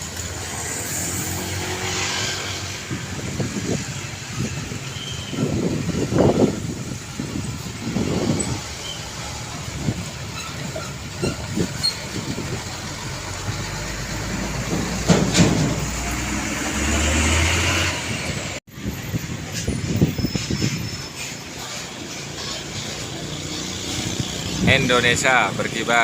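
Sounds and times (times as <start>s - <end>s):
heavy truck passing: 0.0s - 26.0s
road traffic: 0.0s - 26.0s.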